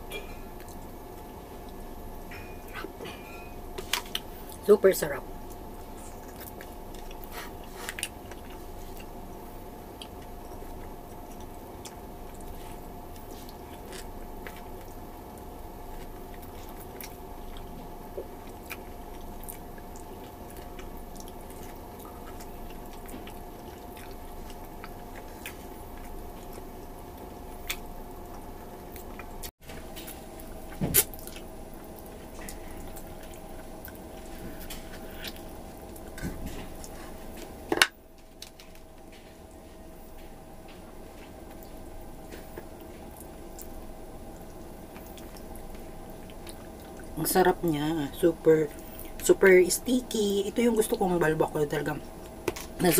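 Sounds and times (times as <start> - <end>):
wet chewing and mouth sounds: 0.0 - 4.6, 5.3 - 47.8
steady background hum: 0.0 - 52.9.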